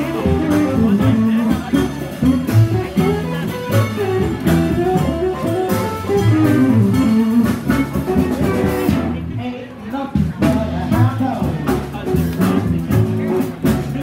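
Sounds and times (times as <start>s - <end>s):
blues band playing: 0.0s - 14.0s.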